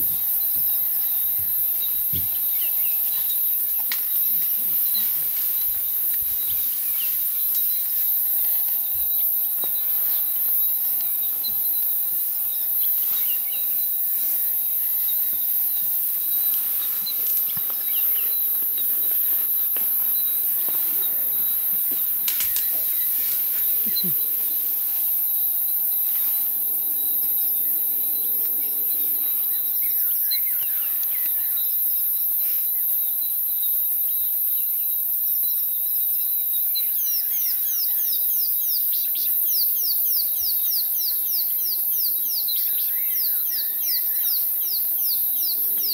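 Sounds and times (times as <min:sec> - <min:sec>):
insect chorus: 0:00.0 - 0:45.9.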